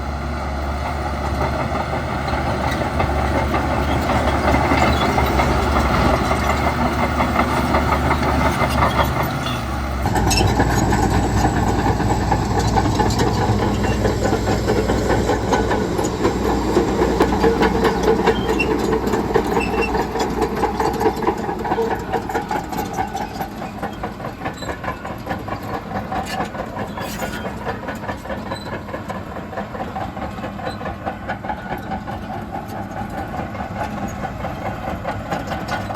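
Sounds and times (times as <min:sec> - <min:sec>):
heavy diesel machinery running: 0:00.0 - 0:35.9.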